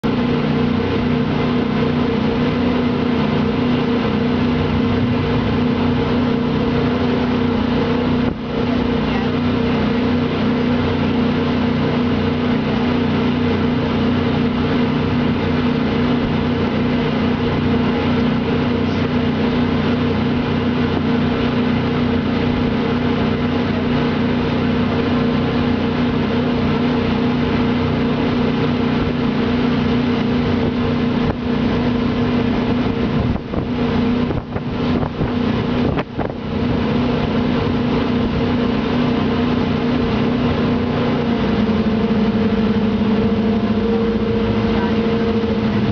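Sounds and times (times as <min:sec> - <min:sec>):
jet boat engine drone: 0:00.0 - 0:45.9.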